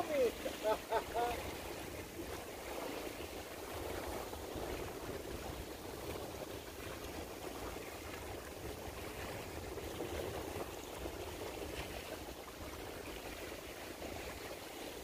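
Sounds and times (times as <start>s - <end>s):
water rushing at shoreline: 0.0s - 15.0s
wind rumble on microphone: 0.0s - 15.0s.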